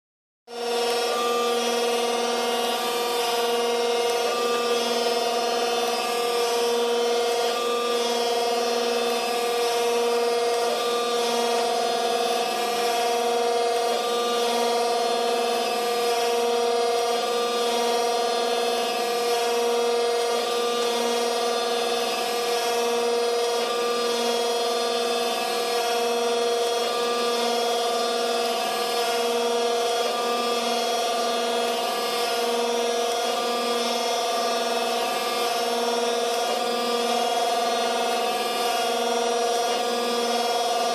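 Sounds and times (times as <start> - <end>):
surface grinder motor whine: 0.5 - 40.9.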